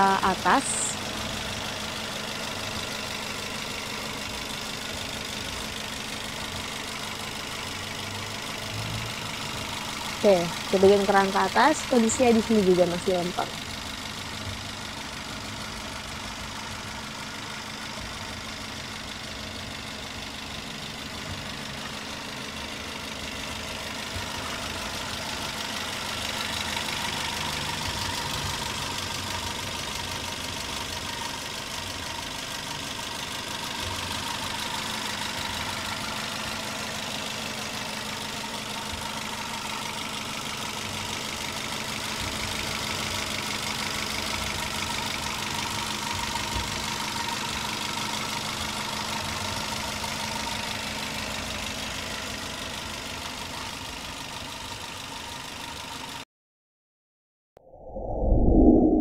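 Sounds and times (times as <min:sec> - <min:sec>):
car engine idling: 0:00.0 - 0:56.2.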